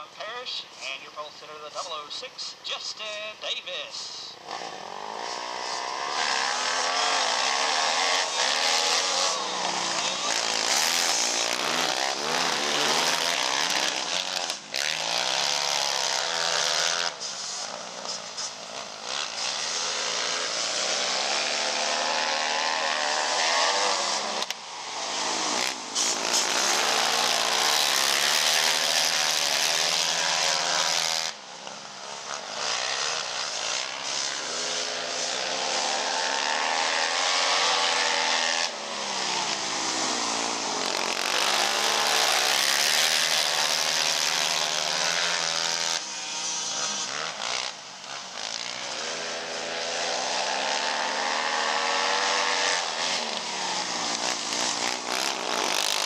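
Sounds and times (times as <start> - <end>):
racing atv engines revving: 0.0 - 56.0.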